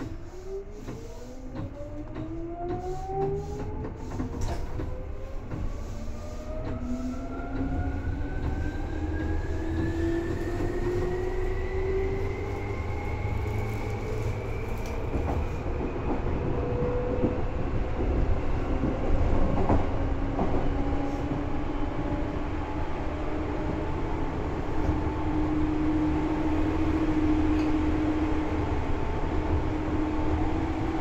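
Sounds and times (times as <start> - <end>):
train running rumble: 0.0 - 31.0.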